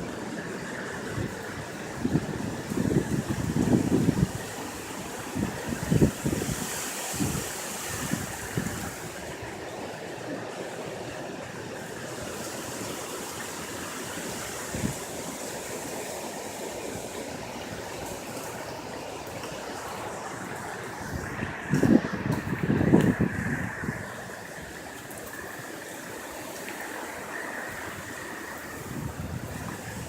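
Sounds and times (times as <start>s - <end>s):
wind buffeting microphone: 0.9s - 9.9s, 14.0s - 30.0s
strong wind blowing: 1.0s - 9.7s, 14.2s - 30.0s.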